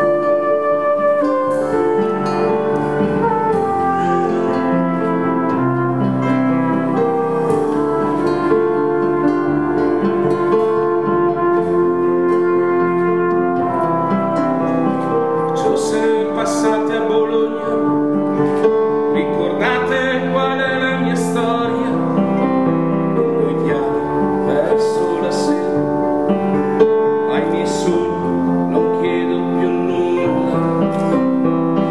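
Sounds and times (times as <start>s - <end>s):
sustained instrumental chords: 0.0s - 31.9s.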